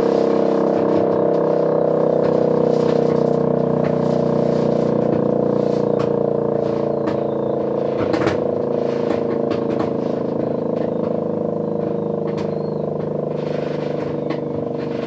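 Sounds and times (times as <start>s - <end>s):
siren steady tone: 0.0s - 15.0s.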